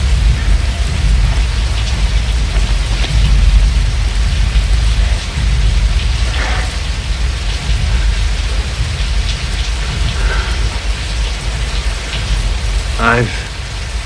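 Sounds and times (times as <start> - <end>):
deep rumble: 0.0 - 14.0
heavy rain falling: 0.0 - 14.0.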